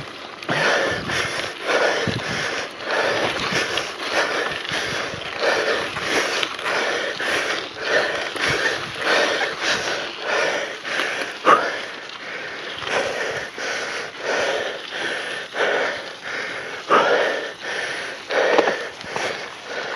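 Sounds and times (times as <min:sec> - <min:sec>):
person breathing hard: 0:00.5 - 0:19.9.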